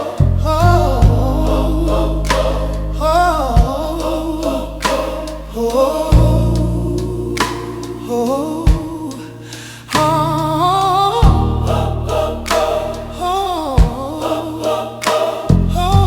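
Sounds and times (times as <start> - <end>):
held bass notes: 0.0 - 9.2, 9.9 - 14.8, 15.5 - 16.0
voices singing gospel with vibrato: 0.0 - 16.0
low beat: 0.2 - 9.2, 10.0 - 16.0.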